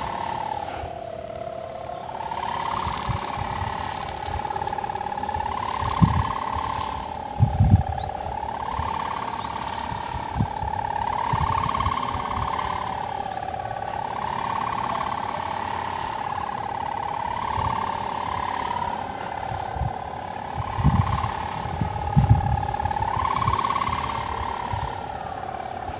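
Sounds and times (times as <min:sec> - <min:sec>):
kite hummer droning: 0:00.0 - 0:25.9.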